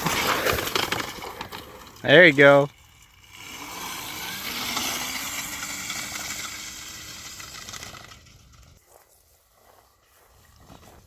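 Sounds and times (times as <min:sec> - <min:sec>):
pit bike riding off: 0:00.0 - 0:08.9.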